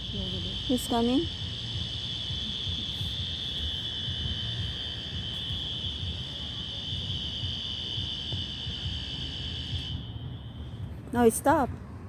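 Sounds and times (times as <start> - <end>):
fire alarm high-pitched tone: 0.0 - 11.7
low rumble: 0.0 - 12.0.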